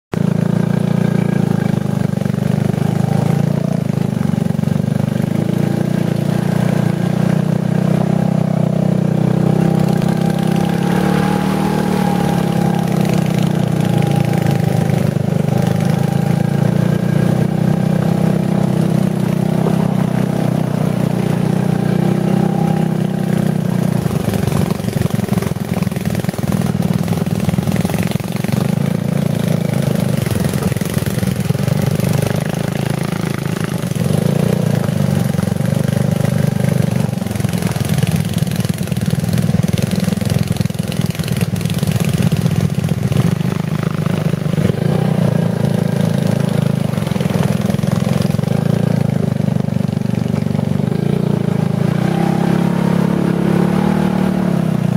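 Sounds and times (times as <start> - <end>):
buggy engine running: 0.1 - 54.9.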